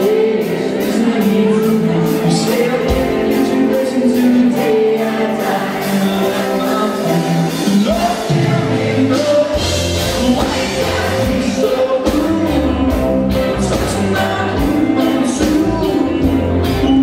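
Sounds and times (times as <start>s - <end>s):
person singing: 0.0s - 17.0s
rock band playing: 0.0s - 17.0s.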